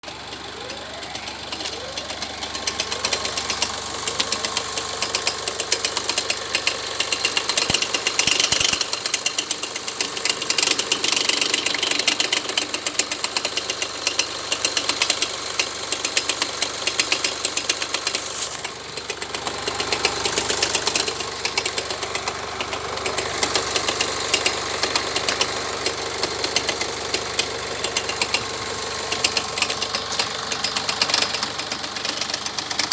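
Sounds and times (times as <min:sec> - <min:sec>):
diesel engine running: 0:00.0 - 0:32.9
rapid knocking from engine: 0:00.0 - 0:32.9.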